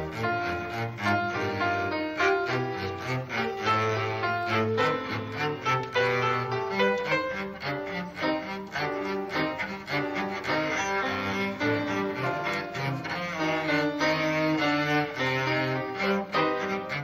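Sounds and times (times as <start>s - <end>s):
bowed string instruments playing: 0.0s - 17.0s
cello quick notes: 0.0s - 17.0s.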